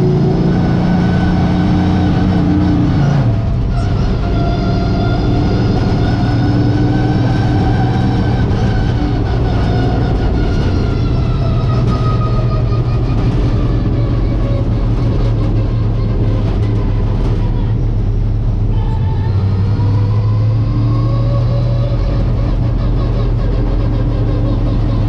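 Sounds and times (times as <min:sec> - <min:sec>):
race car engine running: 0:00.0 - 0:25.0.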